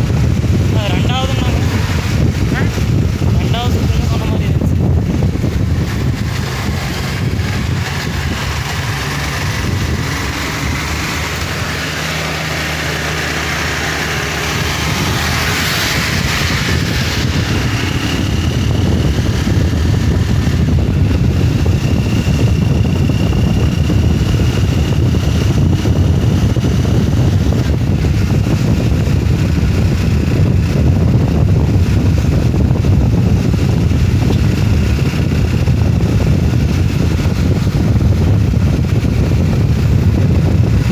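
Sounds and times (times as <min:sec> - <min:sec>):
motorcycle engine rumble: 0:00.0 - 0:40.9.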